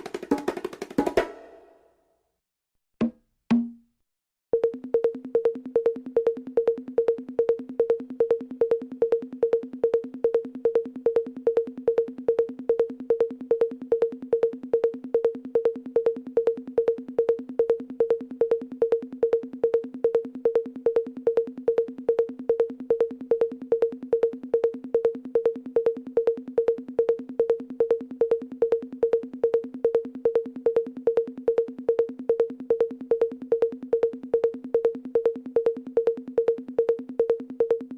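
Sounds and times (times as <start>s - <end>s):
drum machine percussion: 0.0s - 1.8s, 3.0s - 3.9s, 4.6s - 37.9s
faint fast ticks: 4.6s - 37.9s.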